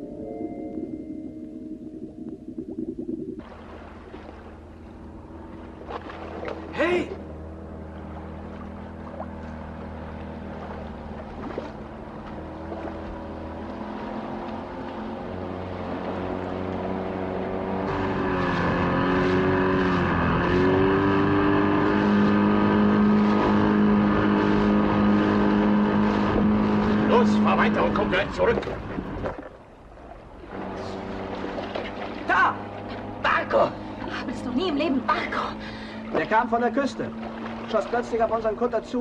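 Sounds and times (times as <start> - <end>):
speedboat engine running: 0.0 - 39.0.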